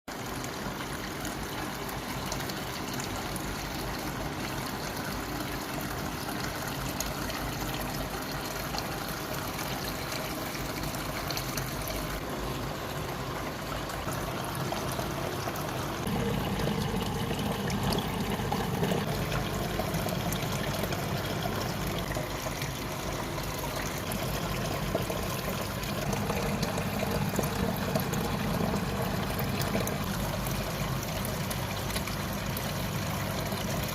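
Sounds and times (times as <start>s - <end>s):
small waterfall trickling: 0.1s - 33.9s.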